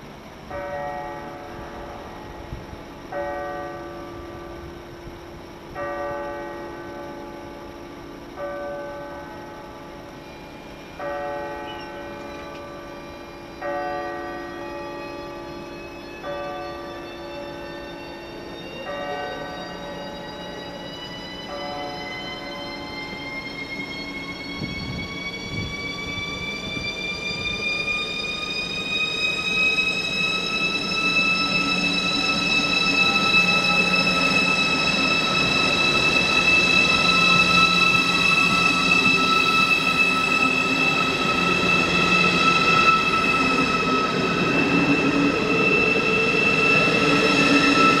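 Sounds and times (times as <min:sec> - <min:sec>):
train traction whine rising: 0:09.2 - 0:48.0.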